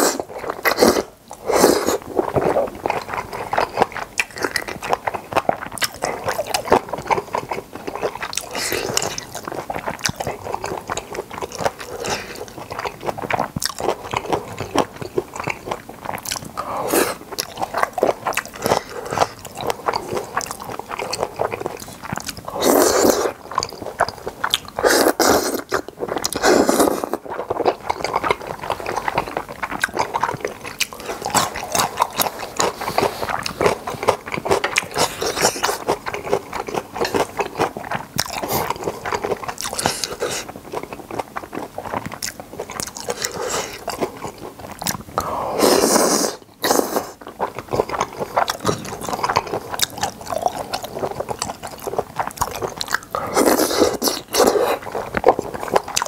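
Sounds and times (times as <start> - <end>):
wet chewing and biting: 0.0 - 56.0.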